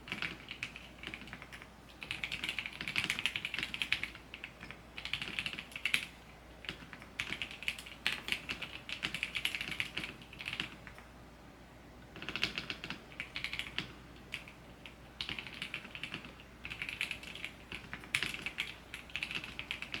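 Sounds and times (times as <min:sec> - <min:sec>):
typing on computer keyboard: 0:00.0 - 0:11.1, 0:12.1 - 0:20.0.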